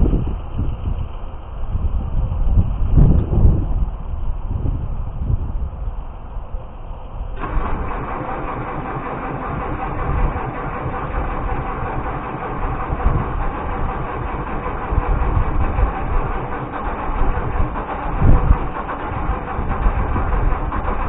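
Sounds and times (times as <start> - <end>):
diesel engine starting and running unevenly: 2.8 - 21.0.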